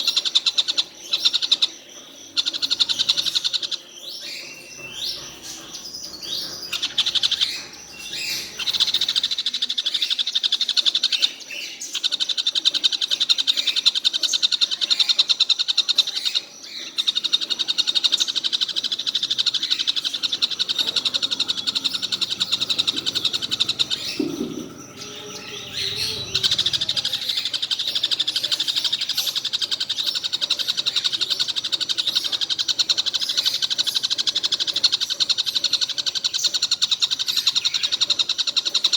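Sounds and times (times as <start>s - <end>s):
kingfisher chattering calls: 0.0s - 38.9s.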